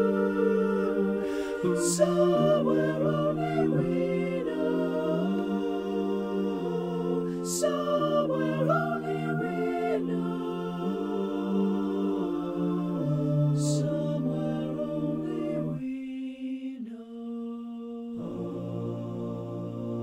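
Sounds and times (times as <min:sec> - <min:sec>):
a cappella choir singing: 0:00.0 - 0:20.0.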